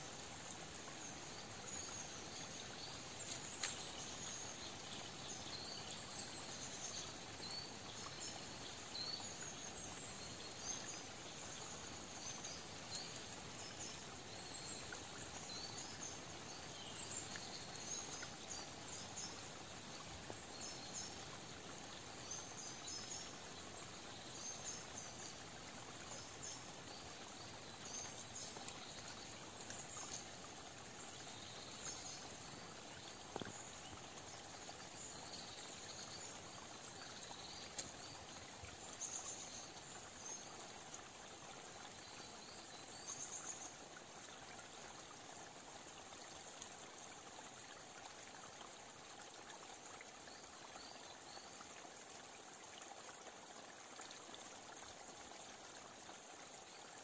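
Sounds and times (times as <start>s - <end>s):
small stream rushing: 0.0s - 57.0s.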